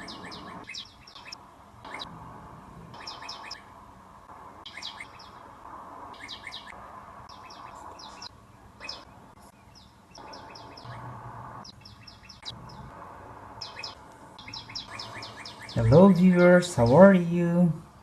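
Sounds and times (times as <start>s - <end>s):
small birds chirping: 0.0s - 18.0s
steady background noise: 0.0s - 18.0s.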